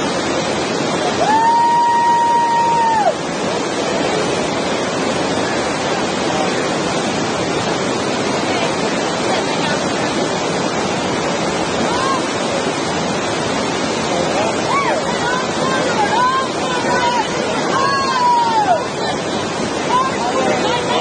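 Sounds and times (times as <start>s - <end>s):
whitewater rapids rushing: 0.0s - 21.0s.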